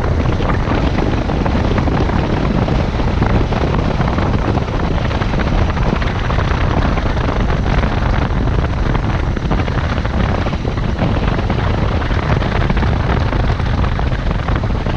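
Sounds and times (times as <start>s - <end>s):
motorcycle engine: 0.0s - 14.9s
wind on microphone: 0.0s - 14.9s.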